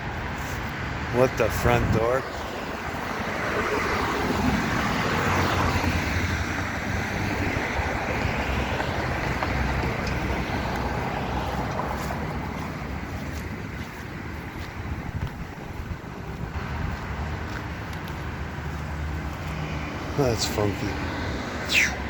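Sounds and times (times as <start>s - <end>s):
steady rushing outdoor noise: 0.0s - 22.0s.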